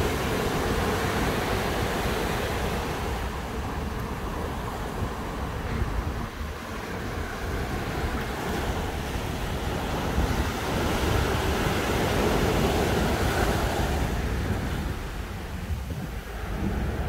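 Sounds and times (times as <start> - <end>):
waves washing up a beach: 0.0 - 17.0
wind rumbling on microphone: 0.0 - 17.0.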